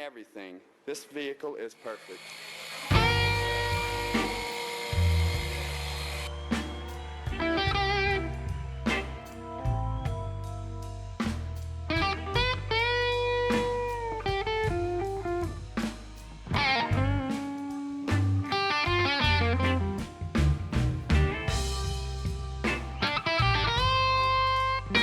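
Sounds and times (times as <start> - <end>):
bass and drums: 2.9 - 25.0
bluesy electric guitar: 2.9 - 25.0.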